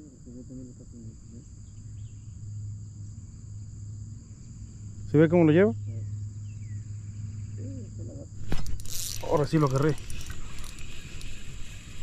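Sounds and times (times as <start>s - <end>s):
insects buzzing: 0.0s - 12.0s
low steady hum: 0.0s - 12.0s.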